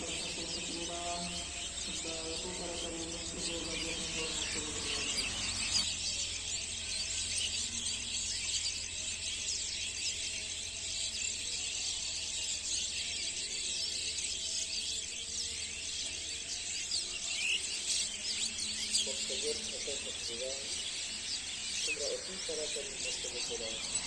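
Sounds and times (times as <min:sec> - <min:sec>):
flock of small birds chirping: 0:00.0 - 0:24.0.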